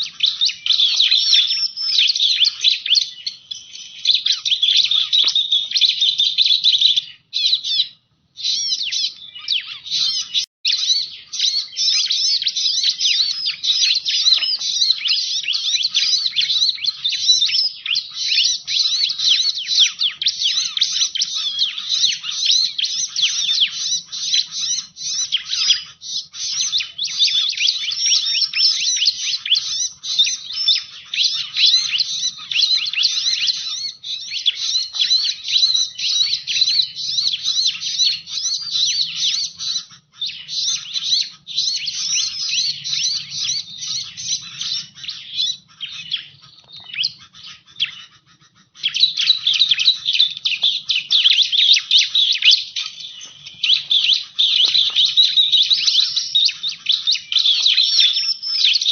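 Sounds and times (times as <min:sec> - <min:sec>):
bird rapid high chirps: 0:00.0 - 0:58.9.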